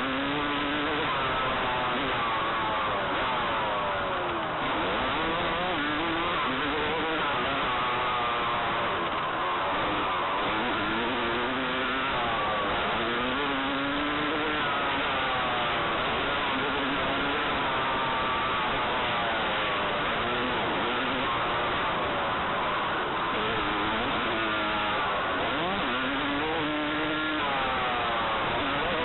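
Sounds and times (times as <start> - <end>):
dirt bike engine revving: 0.0 - 29.0
steady rushing noise: 0.0 - 29.0.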